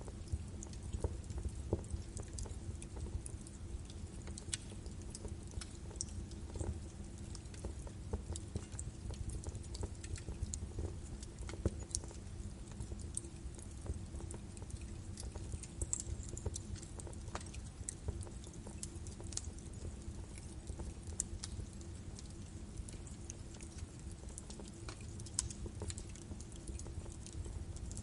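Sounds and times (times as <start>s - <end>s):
low rumble of flames: 0.0s - 28.0s
wood fire crackling: 0.0s - 28.0s.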